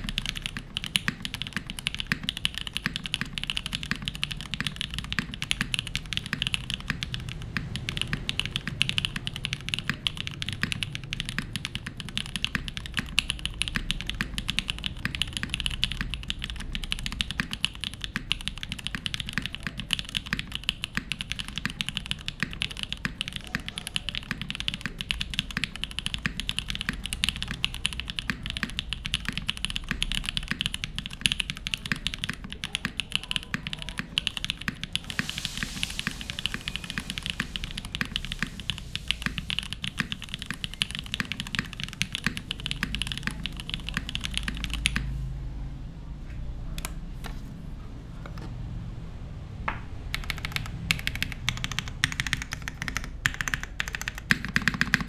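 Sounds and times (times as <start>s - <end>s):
mechanical keyboard typing: 0.0s - 45.2s, 50.1s - 55.0s.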